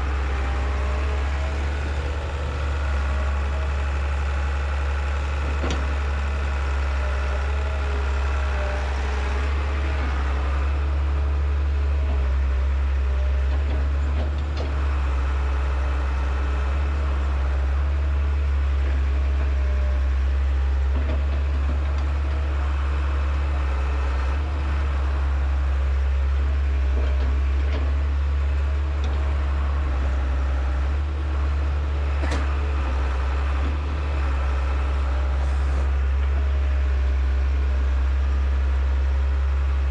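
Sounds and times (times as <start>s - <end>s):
diesel digger engine droning: 0.0s - 39.9s.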